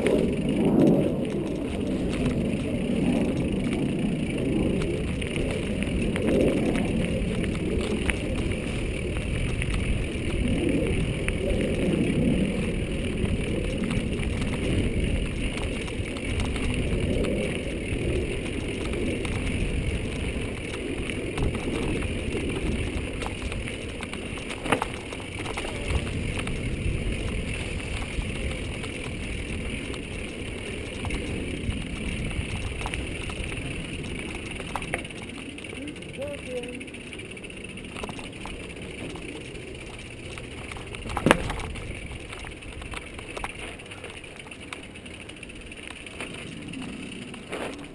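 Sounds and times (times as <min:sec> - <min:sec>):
bike rattles and clicks: 0:00.0 - 0:47.9
bike tyres rumbling on dirt: 0:00.0 - 0:47.9.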